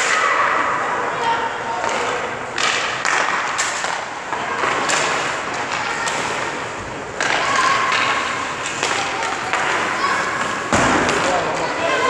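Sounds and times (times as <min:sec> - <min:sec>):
hockey sticks or pucks knocking: 0:01.8 - 0:11.7
skate blades scraping ice: 0:01.9 - 0:12.0.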